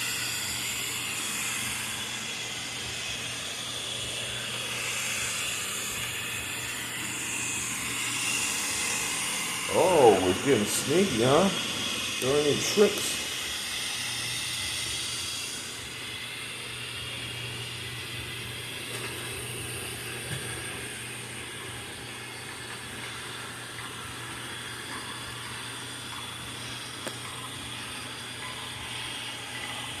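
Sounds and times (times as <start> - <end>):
robot vacuum motor hum: 0.0 - 30.0.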